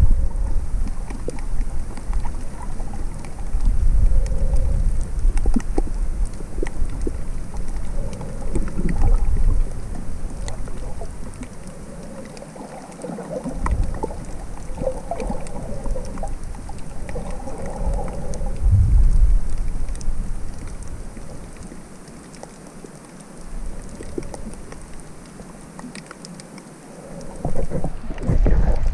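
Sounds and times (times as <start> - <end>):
underwater rumble of moving water: 0.0 - 28.9
sharp underwater clicks: 0.5 - 28.9.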